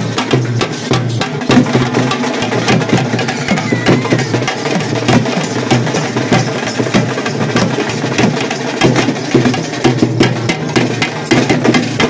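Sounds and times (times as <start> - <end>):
frame drums beaten with sticks: 0.0 - 12.0.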